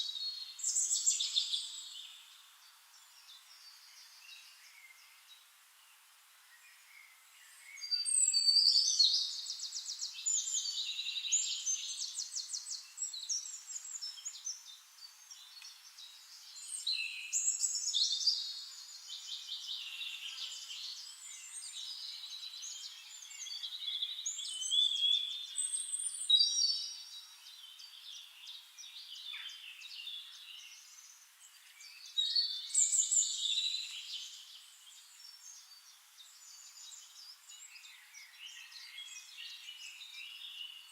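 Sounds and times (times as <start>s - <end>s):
songbirds singing with trills: 0.0s - 40.9s.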